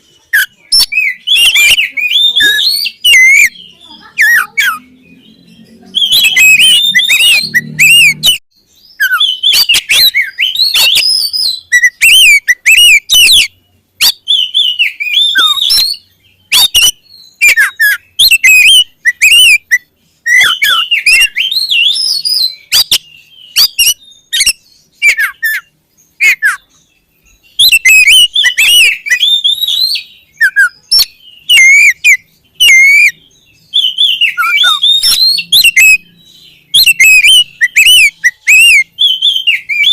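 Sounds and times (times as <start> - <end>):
bird singing whistles: 0.0 - 39.9.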